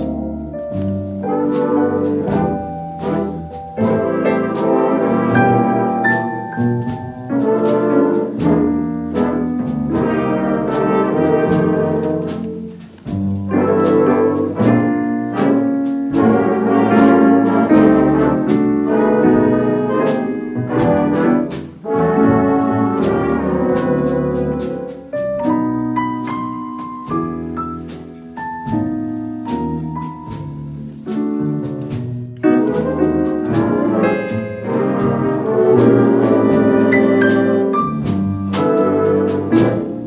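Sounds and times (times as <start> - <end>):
jazz big band playing: 0.0 - 40.0.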